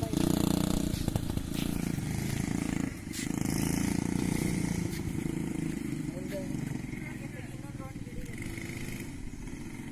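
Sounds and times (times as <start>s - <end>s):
quad bike engine running: 0.0s - 9.9s.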